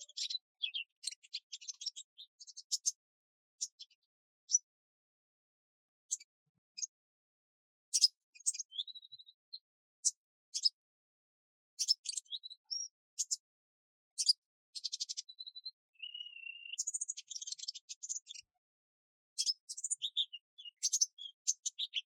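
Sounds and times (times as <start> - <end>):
small birds chirping: 0.0 - 4.8, 6.0 - 7.0, 7.9 - 10.9, 11.7 - 13.6, 14.2 - 18.6, 19.3 - 22.0.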